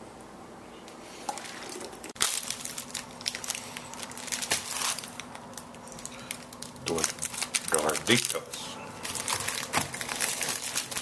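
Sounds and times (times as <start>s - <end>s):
plastic snack packet crackling: 1.3s - 11.0s.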